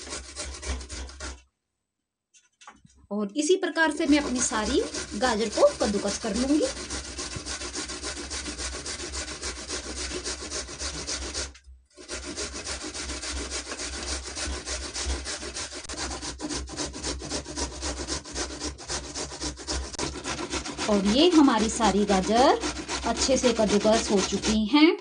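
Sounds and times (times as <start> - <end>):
carrots grated on metal grater: 0.0 - 1.4, 3.8 - 24.7.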